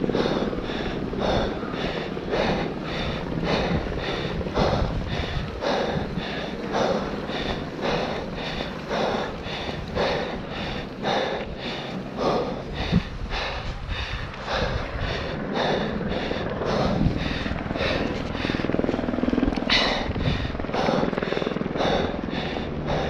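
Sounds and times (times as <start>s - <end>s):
wind on microphone: 0.0s - 11.5s, 12.2s - 23.0s
person breathing hard: 0.0s - 23.0s.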